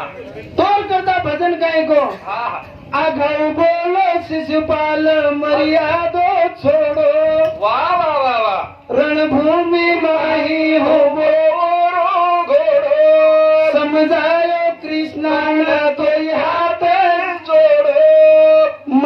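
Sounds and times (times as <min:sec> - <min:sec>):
man singing through a microphone: 0:00.0 - 0:19.0.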